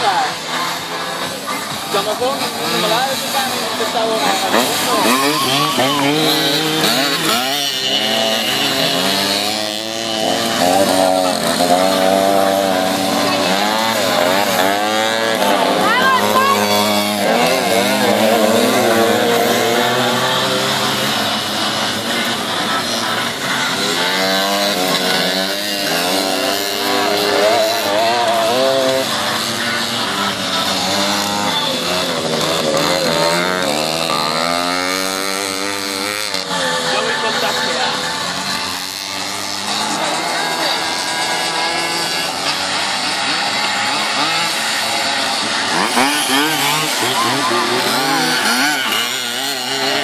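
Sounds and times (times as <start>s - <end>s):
buzzing moped engines revving: 0.0s - 50.0s.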